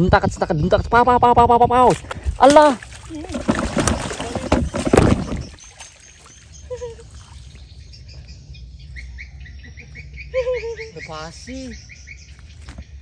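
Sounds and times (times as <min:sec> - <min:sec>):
small birds chirping: 0:02.0 - 0:13.0.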